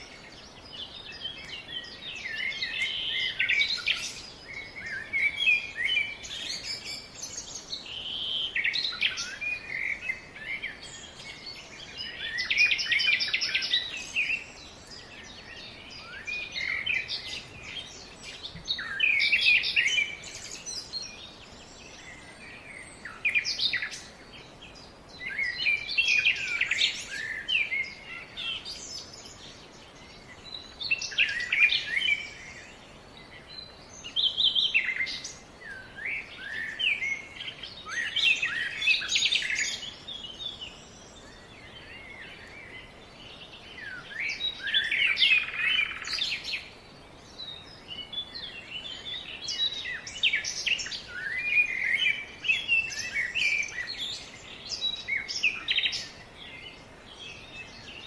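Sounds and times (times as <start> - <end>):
birds chirping and singing: 0.0 - 58.0
faint background hiss: 0.0 - 58.0.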